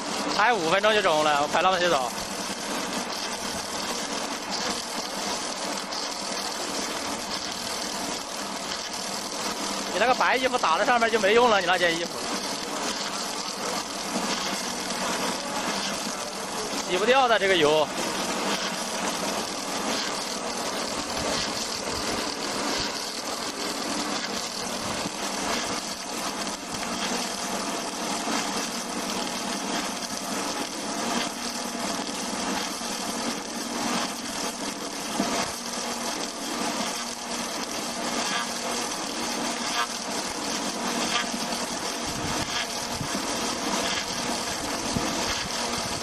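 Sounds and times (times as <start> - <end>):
cutter shaving log: 0.0 - 46.0
lathe motor hum: 0.0 - 46.0.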